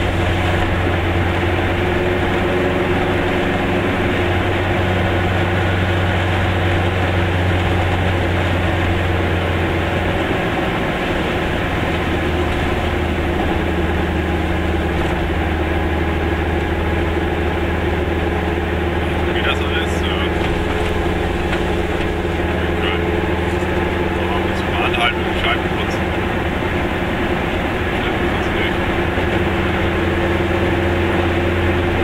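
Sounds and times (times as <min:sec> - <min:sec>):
road noise: 0:00.0 - 0:32.0
vehicle engine drone: 0:00.0 - 0:32.0.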